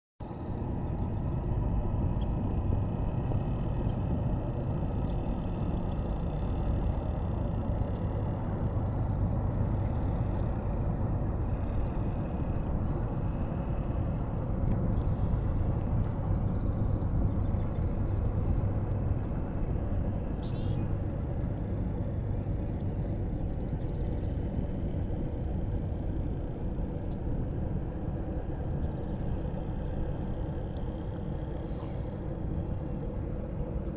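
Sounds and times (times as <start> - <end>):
low outdoor rumble: 0.2 - 33.9.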